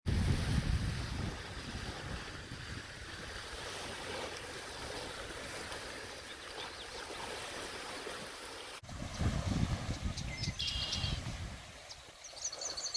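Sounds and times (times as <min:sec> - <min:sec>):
lake waves washing on shore: 0:00.1 - 0:12.9.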